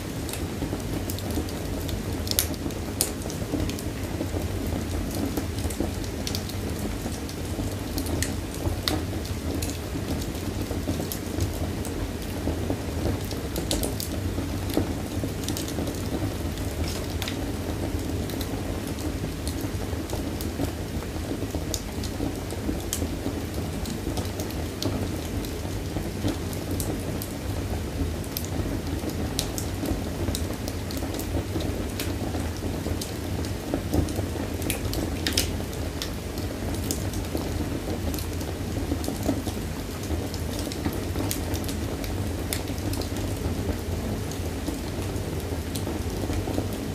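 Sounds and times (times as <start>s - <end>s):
wood fire roaring and crackling: 0.0s - 46.9s.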